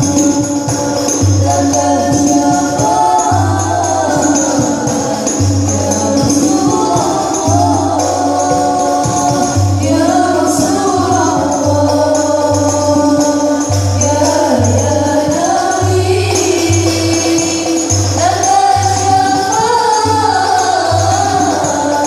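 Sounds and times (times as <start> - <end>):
hand percussion with jingles: 0.0 - 22.0
sung melody: 0.0 - 22.0.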